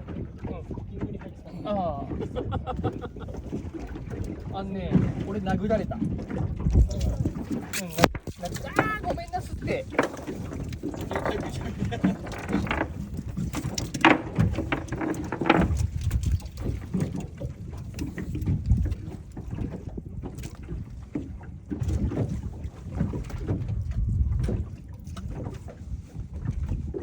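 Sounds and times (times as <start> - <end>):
water slapping against boat hull: 0.0 - 27.0
wind buffeting microphone: 0.0 - 27.0
splashes or knocks: 3.4 - 25.7.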